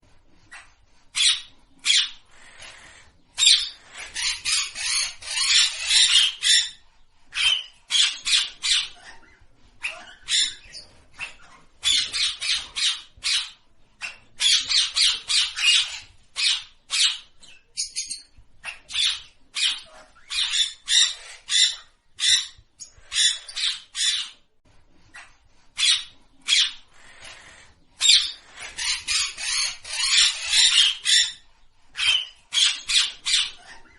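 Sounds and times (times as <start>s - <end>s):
parrots chirping and squawking: 0.3s - 33.9s.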